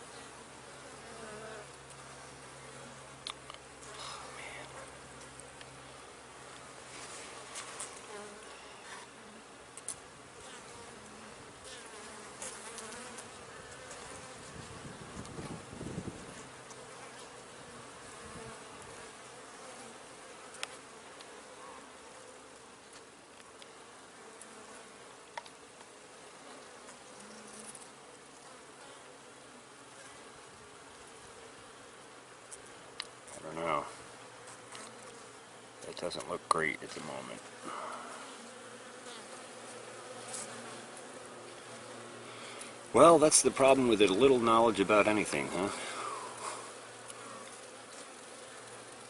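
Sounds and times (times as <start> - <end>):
bees buzzing: 0.0 - 49.0.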